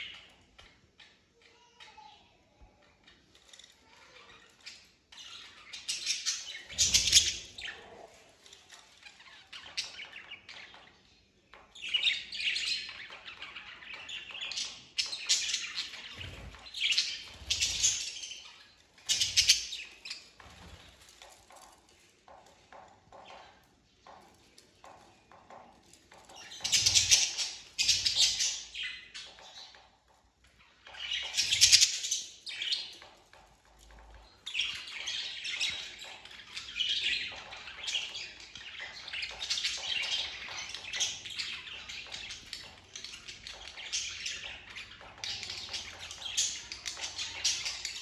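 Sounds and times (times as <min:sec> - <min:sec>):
budgerigars chirping and singing: 0:00.0 - 0:00.8, 0:03.0 - 0:21.3, 0:22.7 - 0:48.0.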